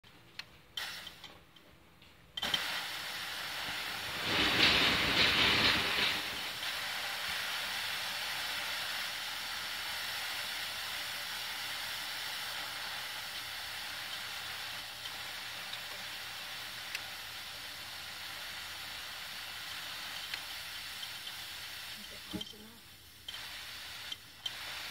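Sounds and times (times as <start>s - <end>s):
mist spraying from nozzle: 0.8s - 1.3s, 2.4s - 24.9s.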